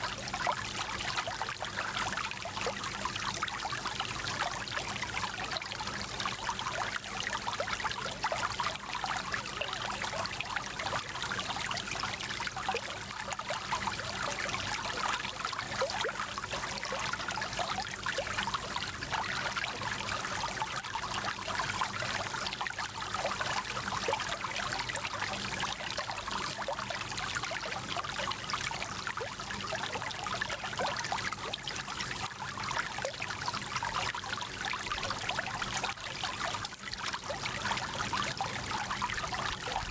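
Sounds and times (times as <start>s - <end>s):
stream flowing with trickles: 0.0s - 39.9s.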